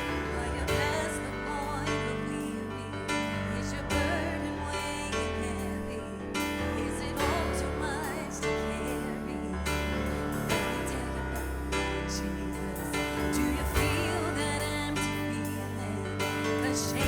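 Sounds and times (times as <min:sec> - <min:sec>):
person singing: 0:00.0 - 0:17.0
worship band playing slow song: 0:00.0 - 0:17.0.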